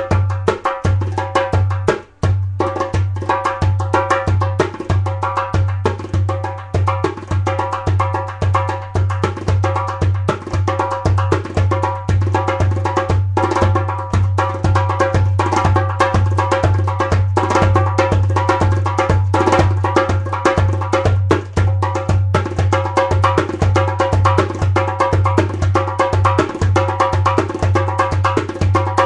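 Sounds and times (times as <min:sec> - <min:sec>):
goblet drum played by hand: 0:00.0 - 0:29.0.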